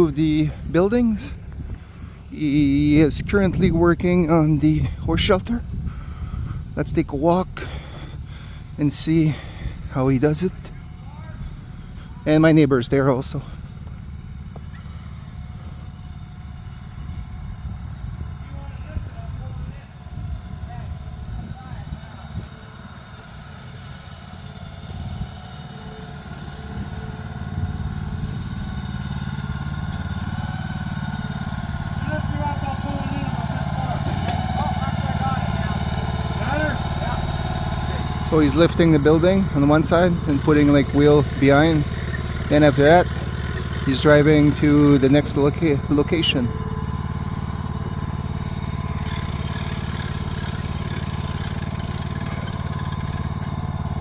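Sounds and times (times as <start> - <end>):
machine engine idling: 0.0 - 54.0.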